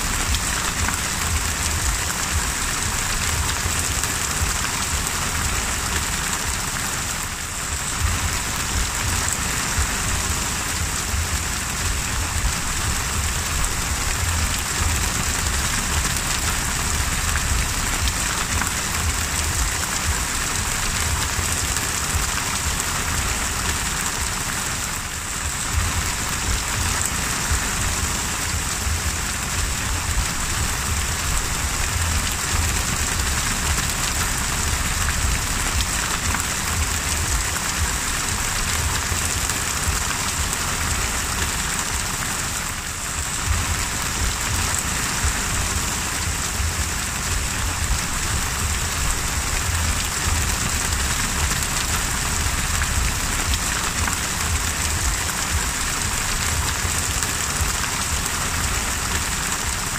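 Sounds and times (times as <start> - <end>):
low rumble: 0.0 - 42.2, 42.8 - 59.8
heavy rain on sea: 0.0 - 59.9.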